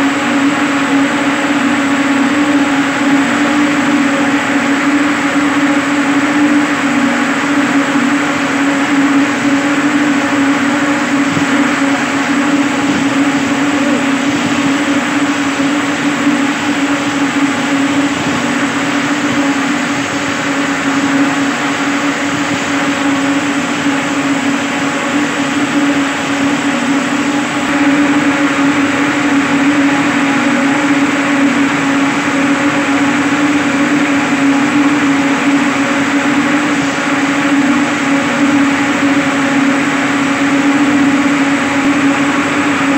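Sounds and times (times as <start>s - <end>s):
spinning machines droning: 0.0s - 42.9s.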